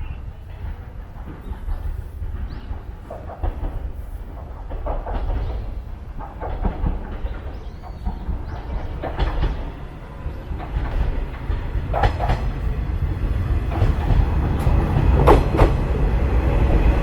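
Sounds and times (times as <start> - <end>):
train rumbling on rails: 0.0 - 17.0
wheels clacking on rail joints: 0.0 - 17.0.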